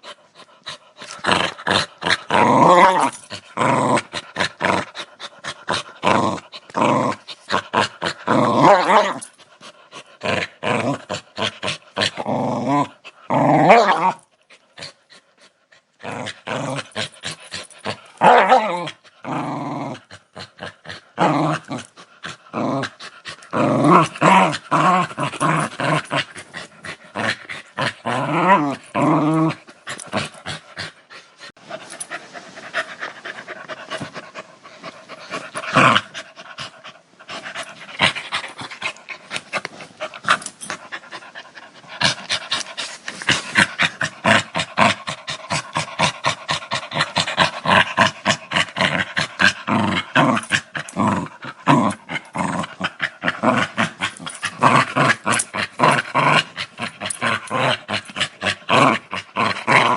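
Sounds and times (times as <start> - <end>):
dog growling: 0.0 - 59.9.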